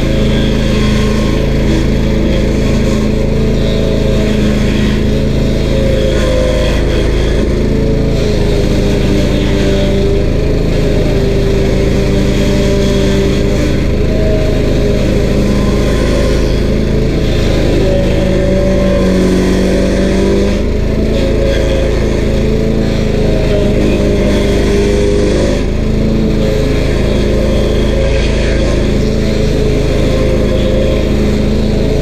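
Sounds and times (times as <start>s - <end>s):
stump grinder engine running: 0.0s - 32.0s.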